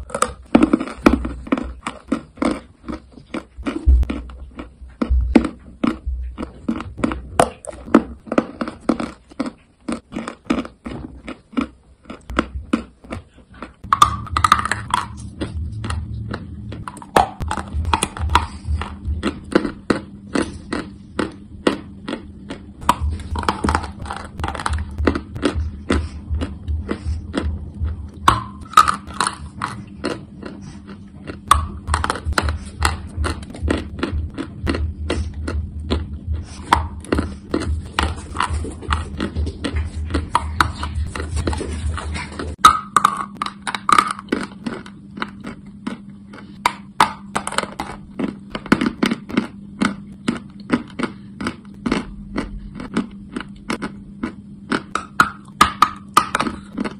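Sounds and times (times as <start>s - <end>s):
chewing chalk crunches: 0.0s - 56.9s
steady low hum: 0.0s - 56.9s.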